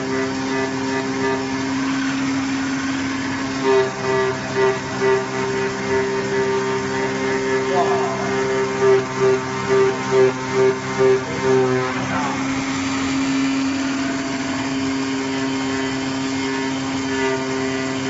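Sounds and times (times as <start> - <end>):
cutting machine humming: 0.0 - 18.0.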